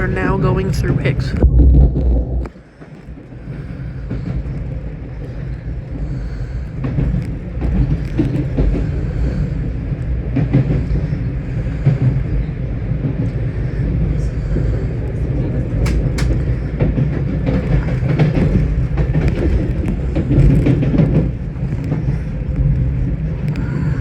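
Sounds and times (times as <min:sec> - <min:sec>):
train rumble: 0:00.0 - 0:24.0
wheels clicking on track: 0:02.4 - 0:24.0.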